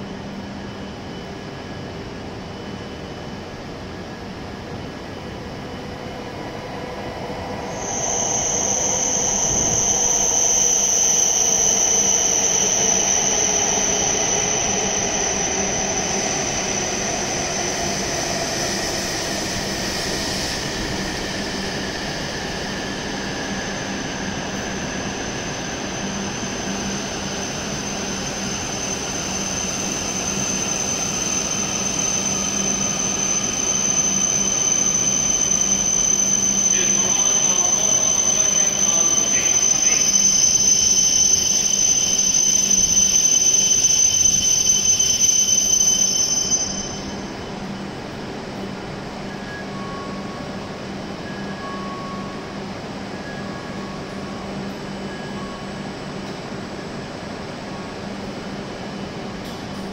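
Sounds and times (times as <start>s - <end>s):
high steady squeal: 0.0s - 59.9s
train motor whine: 2.2s - 59.9s.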